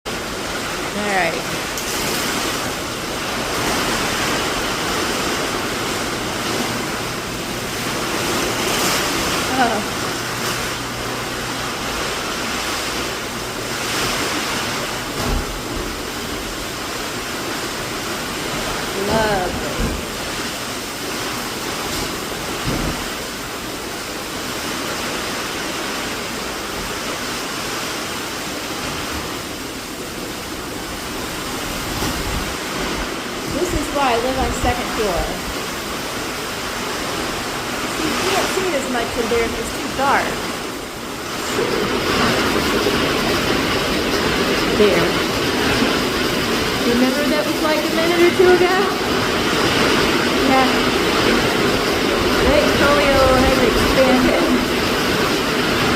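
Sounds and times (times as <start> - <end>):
rushing water: 0.1 - 55.9
strong wind: 0.1 - 55.9.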